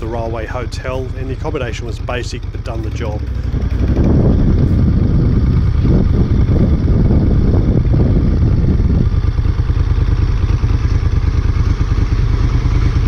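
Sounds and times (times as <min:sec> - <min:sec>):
motorcycle engine at low speed: 0:00.0 - 0:13.0.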